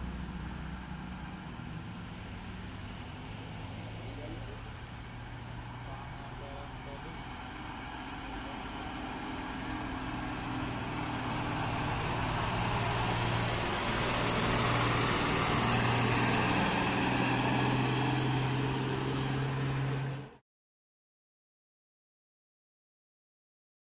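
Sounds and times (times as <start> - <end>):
diesel coach engine: 0.0 - 20.4
tyre and road noise: 0.0 - 20.4.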